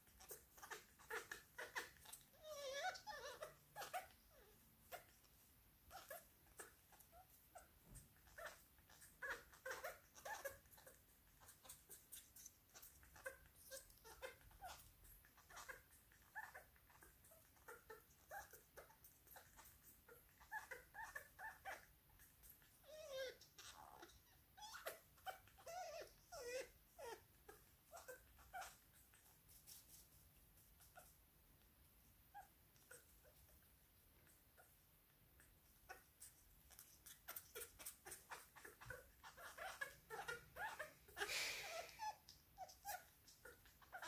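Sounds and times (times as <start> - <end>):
parrot squeaking and chirping: 0.0 - 29.8, 35.8 - 44.0.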